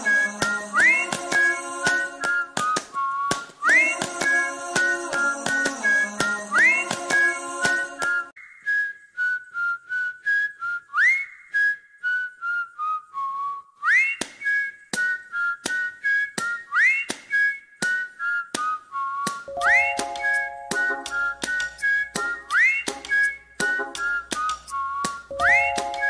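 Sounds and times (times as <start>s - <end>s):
whistled melody: 0.0s - 26.0s.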